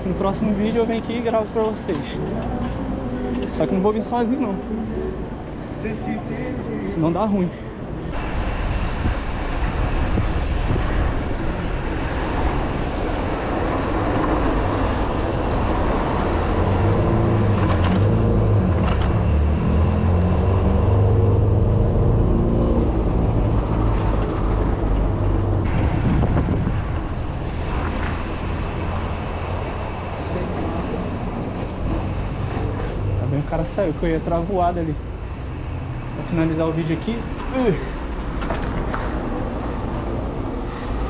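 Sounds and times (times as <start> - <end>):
car and bus engines: 0.0 - 41.0
low traffic rumble: 0.0 - 41.0.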